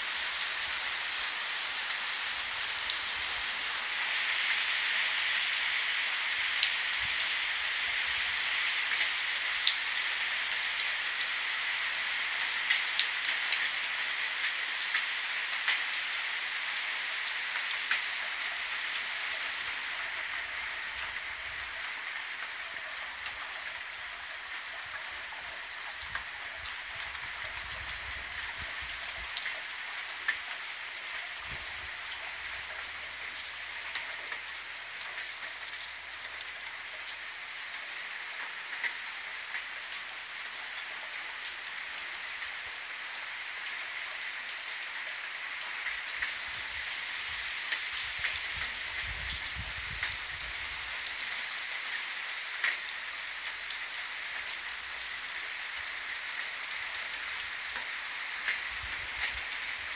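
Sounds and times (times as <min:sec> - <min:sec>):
raindrops ticking on surfaces: 0:00.0 - 0:59.9
steady rain hiss: 0:00.0 - 0:59.9.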